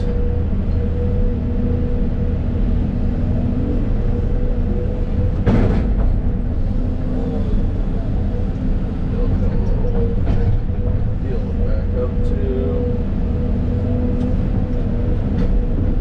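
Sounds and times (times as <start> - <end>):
excavator diesel engine: 0.0 - 16.0.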